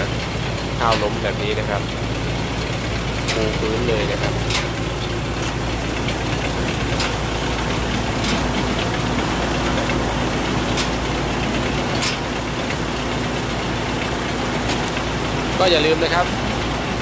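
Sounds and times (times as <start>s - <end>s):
combine harvester droning: 0.0s - 17.0s.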